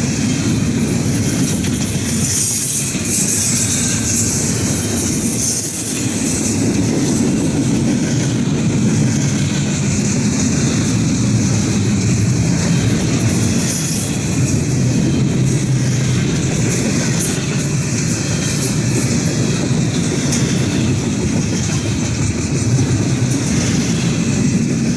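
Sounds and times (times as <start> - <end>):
train wheels rolling on rails: 0.0 - 24.9.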